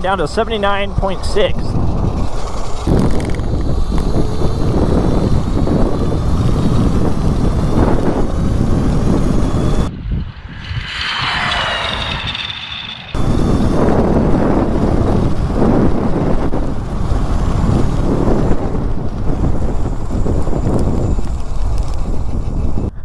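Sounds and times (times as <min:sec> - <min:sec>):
electric motor whine: 0:00.0 - 0:09.9, 0:11.4 - 0:22.8
wind rushing over microphone: 0:00.0 - 0:23.0.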